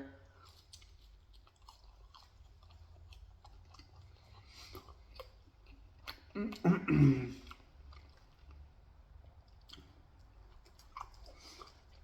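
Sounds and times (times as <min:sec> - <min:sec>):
chewing pizza: 0:00.0 - 0:12.0.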